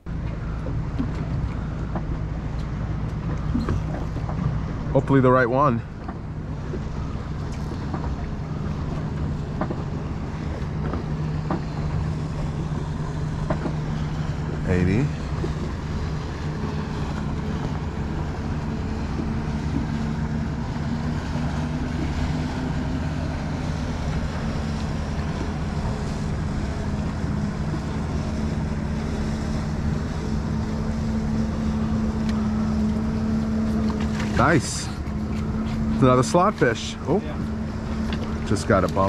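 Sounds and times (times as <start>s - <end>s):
boat engine humming: 0.0s - 39.0s
water washing around hull: 0.0s - 39.0s.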